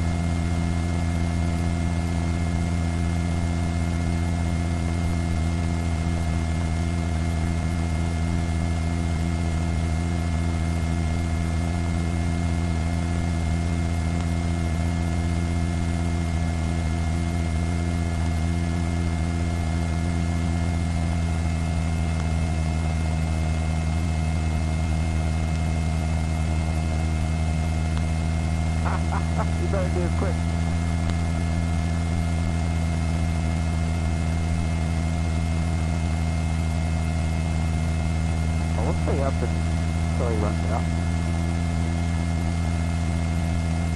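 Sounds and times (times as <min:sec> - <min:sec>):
helicopter drone: 0:00.0 - 0:43.9.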